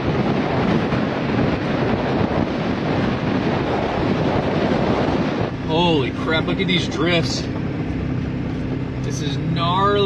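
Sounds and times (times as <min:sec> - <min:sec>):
wind and snow rushing: 0:00.0 - 0:09.0
truck engine: 0:00.0 - 0:10.0.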